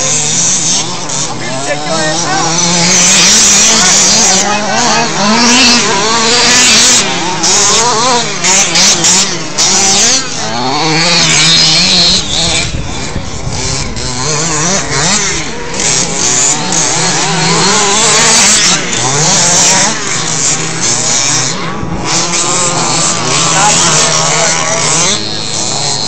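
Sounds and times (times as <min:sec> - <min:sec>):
radio-controlled car motors buzzing: 0:00.0 - 0:26.0.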